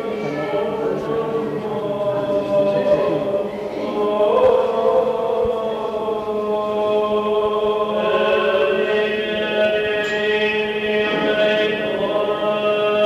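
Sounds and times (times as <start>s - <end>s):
chanted melody in long notes: 0.0s - 13.0s
low sung drone: 0.0s - 13.0s.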